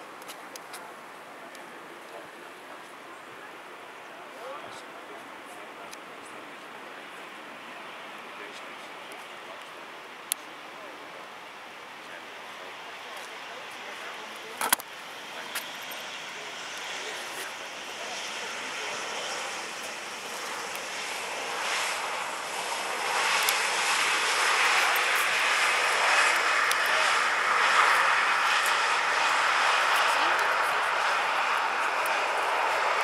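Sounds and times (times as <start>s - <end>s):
jet engines rushing: 4.6s - 33.0s.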